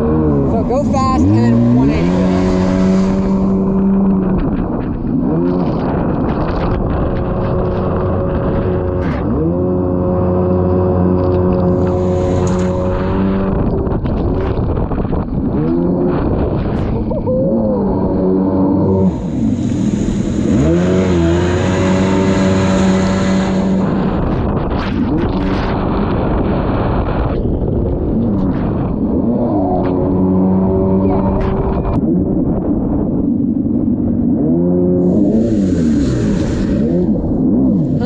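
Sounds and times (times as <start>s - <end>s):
jet ski engine revving: 0.0s - 27.2s, 28.1s - 32.6s, 34.2s - 38.0s.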